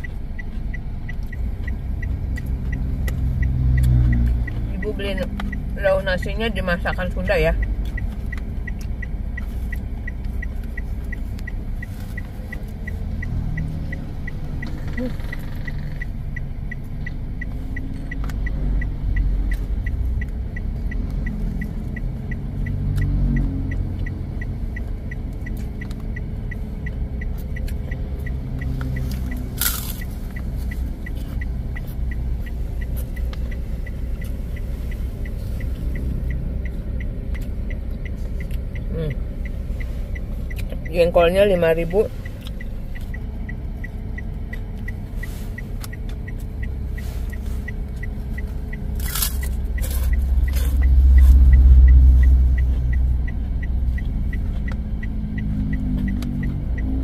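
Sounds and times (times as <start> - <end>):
car interior rumble: 0.0 - 57.0
faint regular tick: 0.0 - 57.0.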